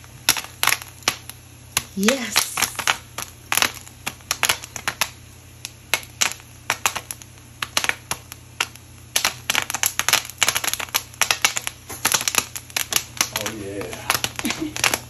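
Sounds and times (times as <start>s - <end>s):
popcorn popping: 0.0s - 15.0s.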